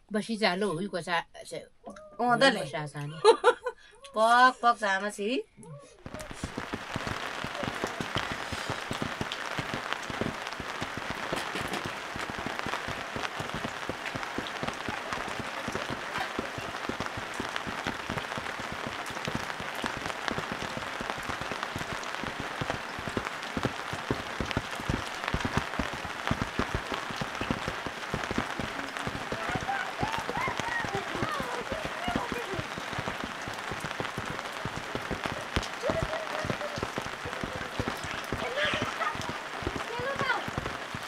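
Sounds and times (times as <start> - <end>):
drops pattering and dripping: 6.1 - 41.0
rain falling: 6.1 - 41.0.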